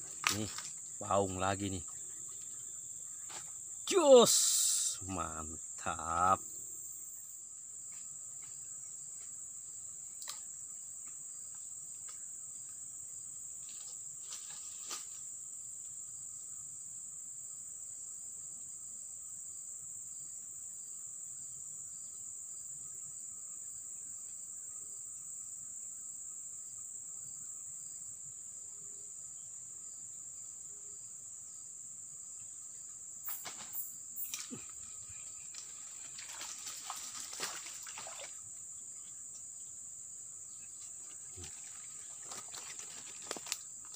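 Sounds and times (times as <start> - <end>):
insects chorus: 0.0 - 43.9.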